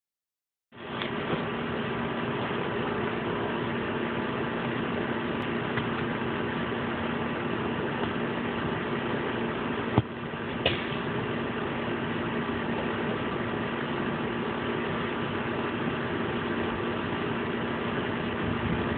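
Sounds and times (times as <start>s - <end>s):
steady mechanical hum: 0.7s - 18.9s.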